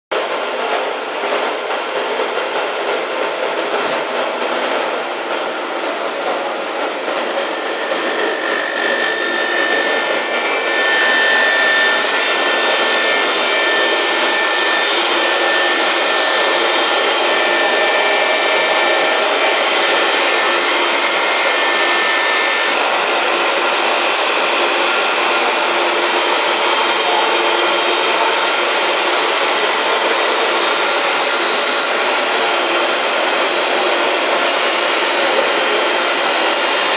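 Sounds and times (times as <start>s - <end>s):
thin machine whine: 0.2s - 36.9s
glass edging machine grinding: 3.6s - 36.9s.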